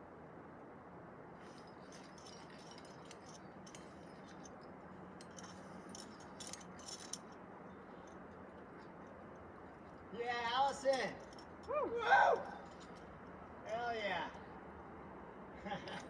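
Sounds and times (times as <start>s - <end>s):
climbing gear clinking: 1.4s - 14.4s, 15.6s - 16.0s.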